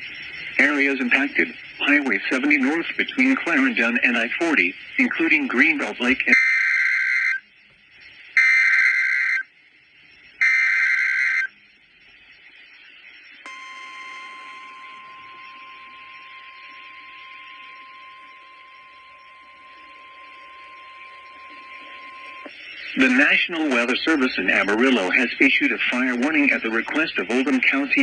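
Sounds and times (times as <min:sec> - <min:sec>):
steady warning alarm tone: 0:00.0 - 0:07.6, 0:08.3 - 0:09.6, 0:10.2 - 0:12.0, 0:12.6 - 0:28.0
faint radio hiss: 0:00.0 - 0:28.0
raspy two-tone data bursts: 0:00.0 - 0:28.0.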